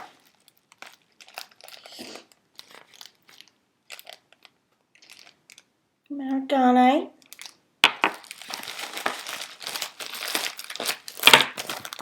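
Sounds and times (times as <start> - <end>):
packaging crinkling and rustling: 0.0 - 5.7, 7.2 - 12.0.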